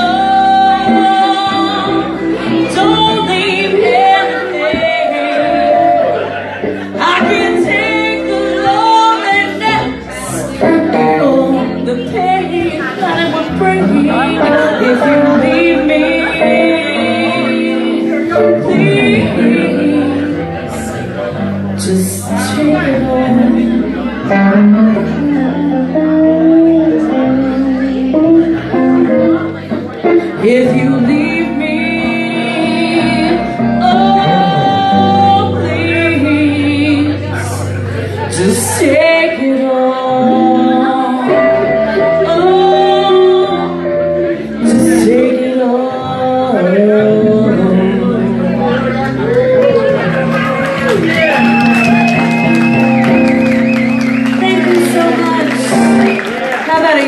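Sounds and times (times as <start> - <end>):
woman singing: 0.0 - 6.3, 6.9 - 21.0, 21.8 - 49.8, 54.0 - 57.0
guitar accompaniment: 0.0 - 57.0.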